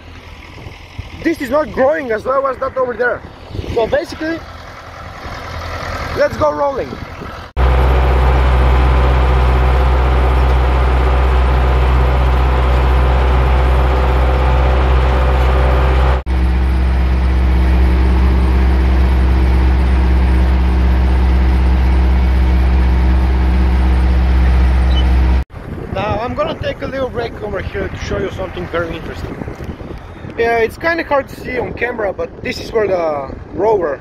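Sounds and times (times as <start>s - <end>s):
tractor diesel engine droning: 0.0s - 30.4s.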